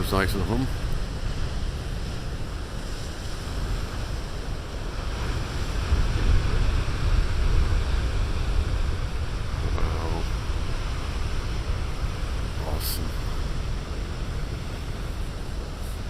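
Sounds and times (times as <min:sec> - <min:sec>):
ocean waves breaking: 0:00.0 - 0:16.0
wind rumbling on microphone: 0:00.0 - 0:16.0.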